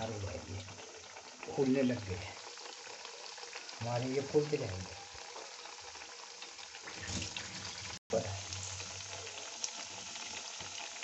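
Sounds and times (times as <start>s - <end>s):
potato slices deep-frying in oil: 0.0s - 11.0s.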